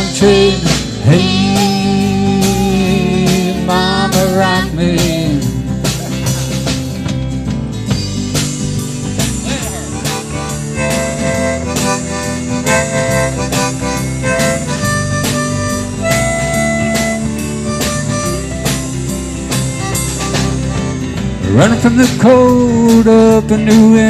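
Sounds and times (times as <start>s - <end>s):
country rock band playing: 0.0s - 24.0s
reedy lead melody: 0.0s - 24.0s
steady drum beat: 0.0s - 24.0s.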